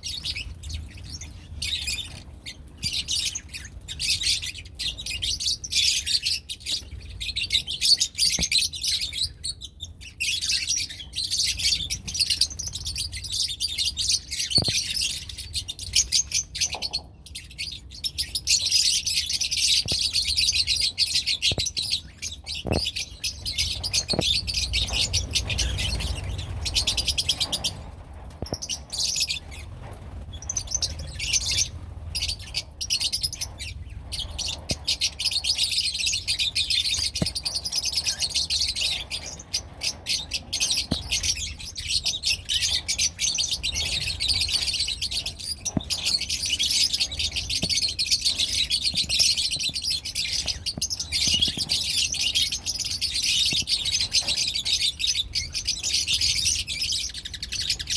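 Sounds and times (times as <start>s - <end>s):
lovebirds chirping: 0.0s - 57.9s.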